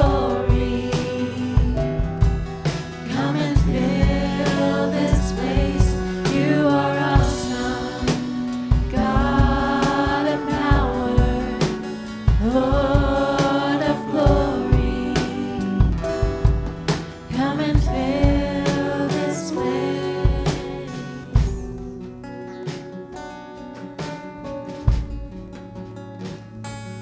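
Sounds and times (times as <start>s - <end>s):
band playing: 0.0s - 22.2s
drum beats: 0.0s - 23.2s, 24.0s - 26.6s.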